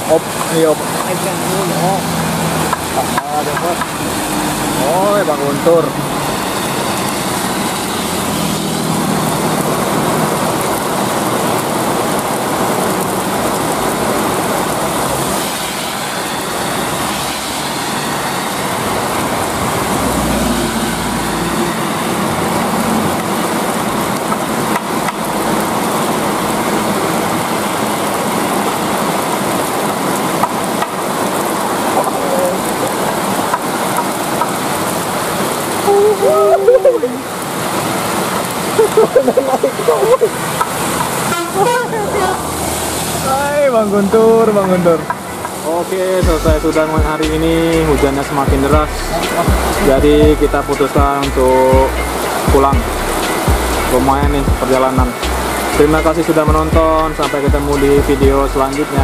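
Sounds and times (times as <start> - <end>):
heavy rain: 0.0 - 59.0
trucks passing: 0.0 - 59.0
tyres hissing through water: 0.0 - 59.0.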